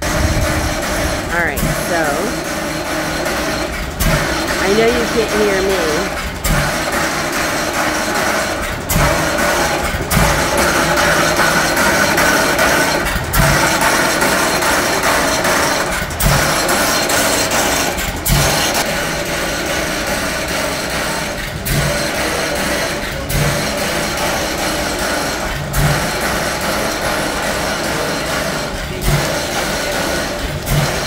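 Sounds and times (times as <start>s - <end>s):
stationary engine heavy thumps: 0.0s - 4.6s, 5.7s - 31.0s
line shaft and belts running: 0.0s - 31.0s.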